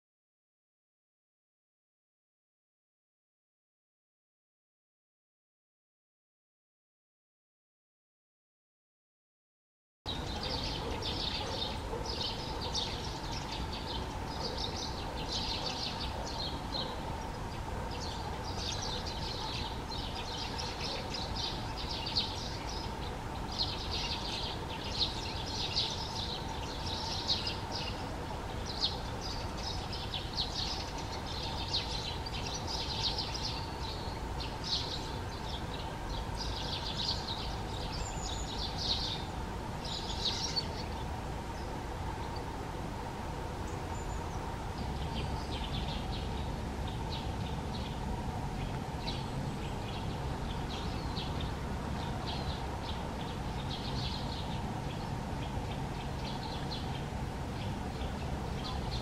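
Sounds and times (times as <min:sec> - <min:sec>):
faint steady hum: 0:10.1 - 0:59.0
songbirds chirping: 0:10.1 - 0:59.0.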